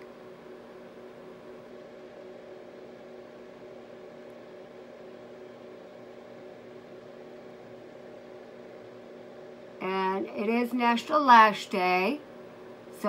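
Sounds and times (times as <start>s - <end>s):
machine hum with low tones: 0.0s - 13.0s.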